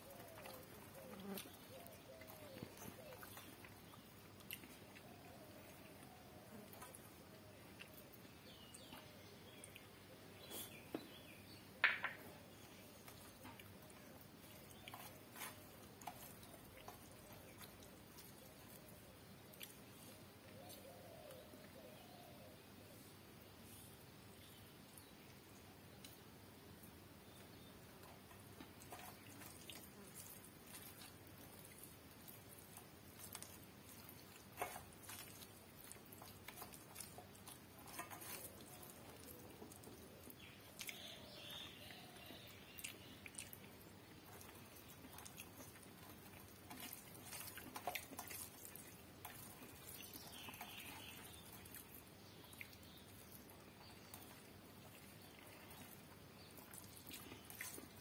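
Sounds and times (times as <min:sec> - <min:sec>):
fingers mixing rice on a plate: 0:00.0 - 0:11.1, 0:12.0 - 0:21.4, 0:27.9 - 0:58.0
soft chewing: 0:00.0 - 0:58.0.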